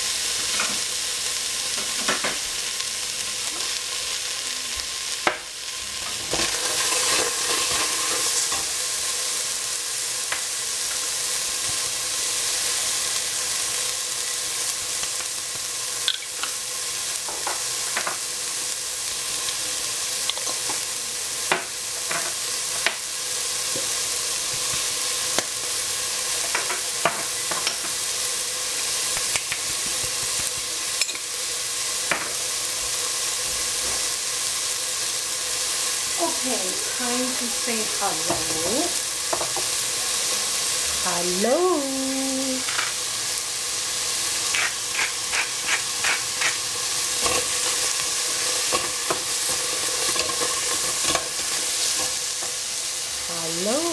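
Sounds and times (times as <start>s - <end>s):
food sizzling in a pan: 0.0s - 53.9s.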